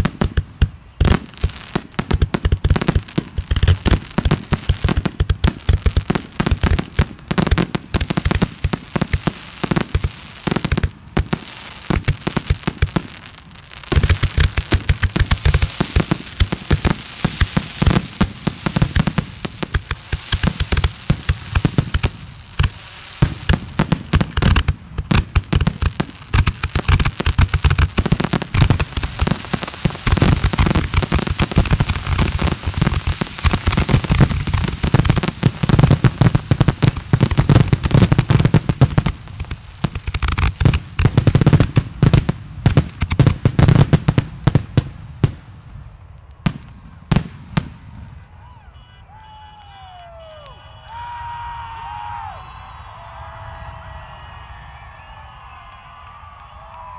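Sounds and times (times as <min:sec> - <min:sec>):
fireworks crackling: 0:00.0 - 0:56.9.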